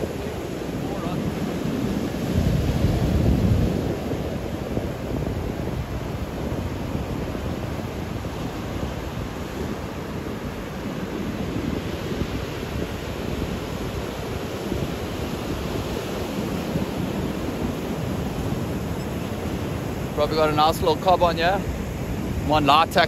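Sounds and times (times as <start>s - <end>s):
surf breaking over rocks: 0.0s - 23.0s
wind buffeting microphone: 0.0s - 23.0s.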